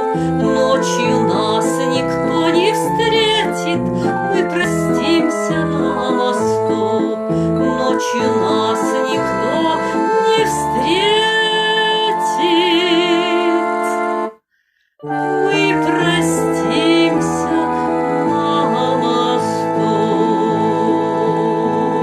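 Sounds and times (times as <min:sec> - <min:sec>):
keyboard music with bass: 0:00.0 - 0:14.4, 0:15.0 - 0:22.0.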